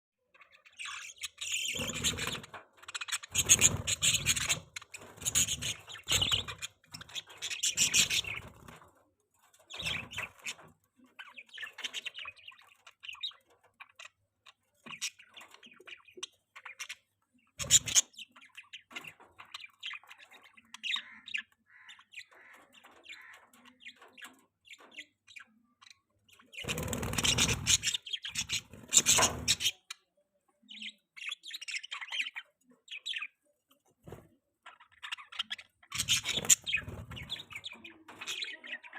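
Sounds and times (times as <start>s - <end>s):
budgerigars chirping: 0.4s - 8.7s, 9.7s - 14.2s, 14.8s - 30.1s, 34.7s - 38.9s.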